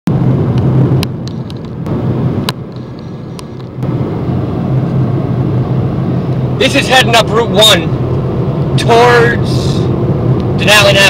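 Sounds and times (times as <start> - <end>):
car engine and tyres rumbling: 0.1 - 11.0.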